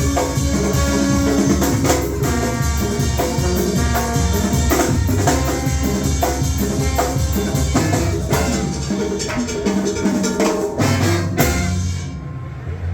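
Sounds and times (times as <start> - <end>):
music with drum kit and bass: 0.0 - 12.3.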